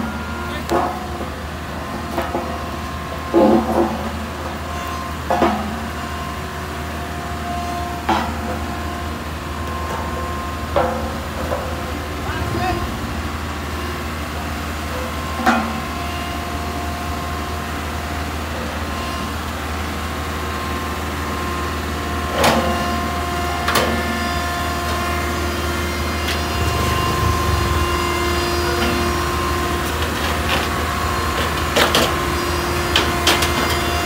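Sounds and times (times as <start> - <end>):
diesel engine drone with whine: 0.0 - 34.0.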